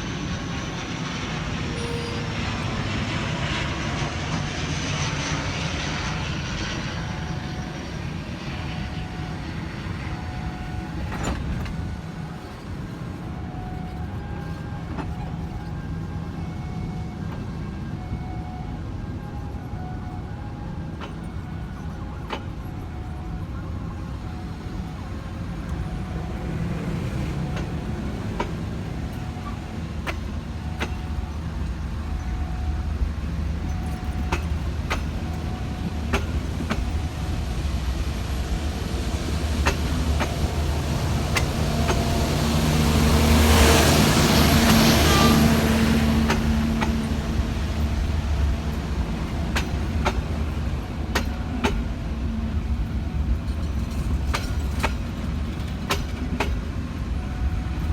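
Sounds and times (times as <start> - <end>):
low engine rumble: 0.0 - 57.9.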